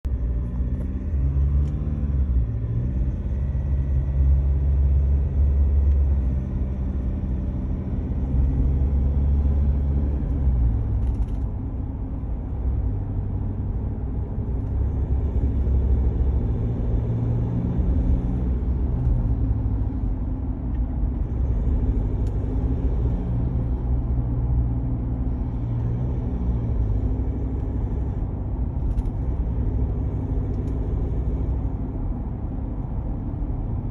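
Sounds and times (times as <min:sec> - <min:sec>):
truck engine and tyres rumbling: 0:00.0 - 0:33.9.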